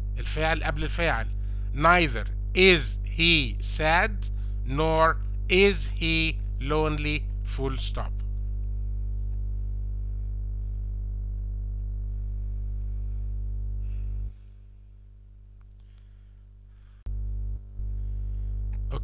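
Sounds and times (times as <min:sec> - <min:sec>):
low electrical hum with buzz: 0:00.0 - 0:19.0.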